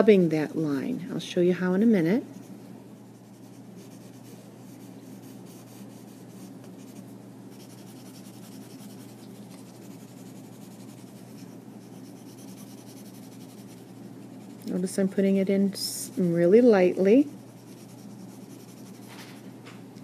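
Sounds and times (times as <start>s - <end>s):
pencil scratching on paper: 2.3s - 19.4s.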